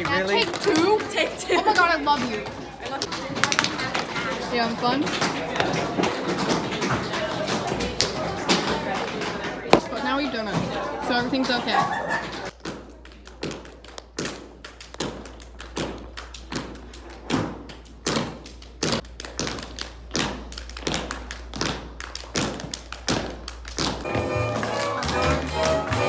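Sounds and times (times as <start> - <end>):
dance shoes tapping on wooden floor: 0.0 - 10.7, 12.3 - 24.7.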